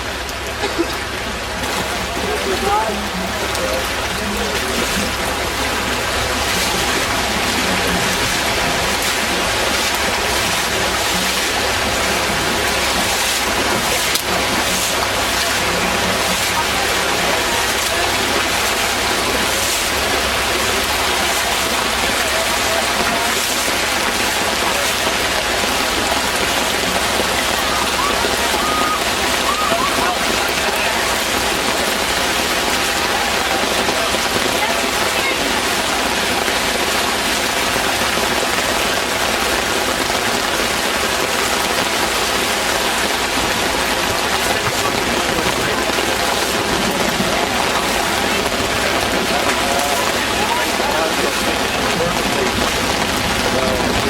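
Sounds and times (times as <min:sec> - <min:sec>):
heavy rain falling: 0:00.0 - 0:54.0
rushing floodwater: 0:00.0 - 0:54.0.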